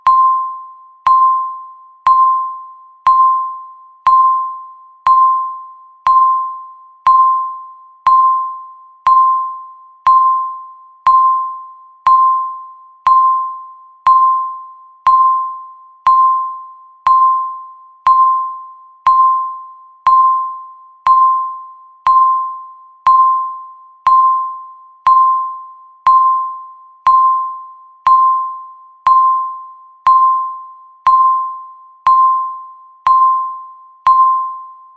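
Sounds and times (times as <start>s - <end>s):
countdown timer beeping: 0.0s - 34.8s.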